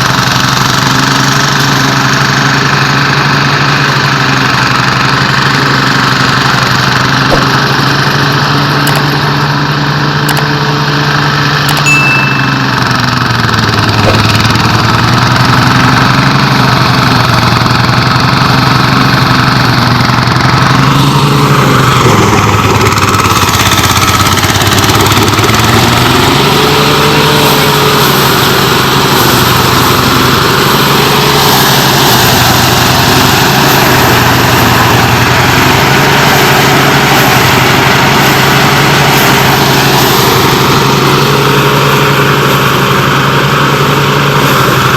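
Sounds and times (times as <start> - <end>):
engine running loudly: 0.0 - 44.9.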